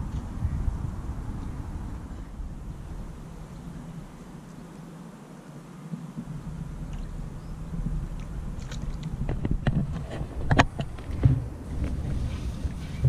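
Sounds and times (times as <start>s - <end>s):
wind rumble on microphone: 0.0s - 5.0s, 5.9s - 13.0s.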